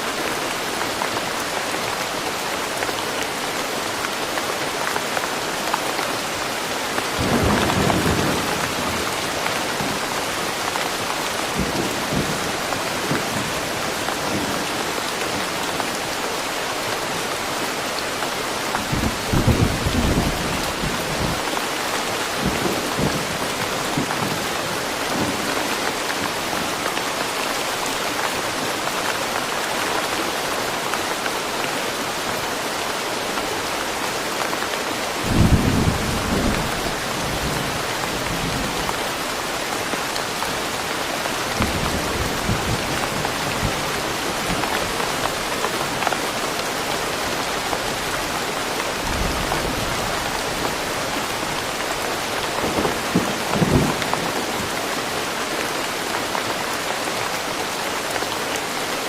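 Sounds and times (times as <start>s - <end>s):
dense rainfall: 0.0s - 59.0s.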